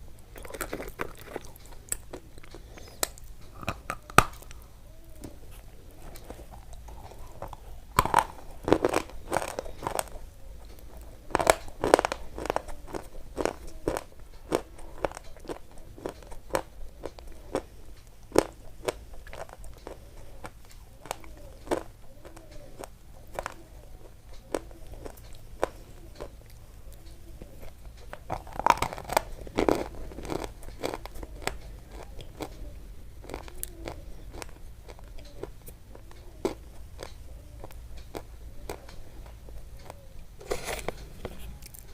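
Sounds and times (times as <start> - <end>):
crunching and chewing crisp food: 0.0 - 41.9.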